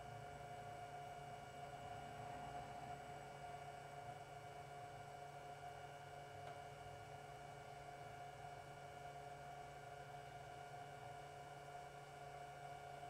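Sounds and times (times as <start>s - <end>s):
heater burner humming: 0.0s - 13.0s.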